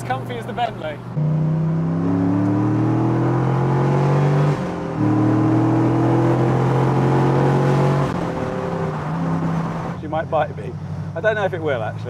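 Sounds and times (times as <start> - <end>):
car engine accelerating hard: 1.2 - 11.4.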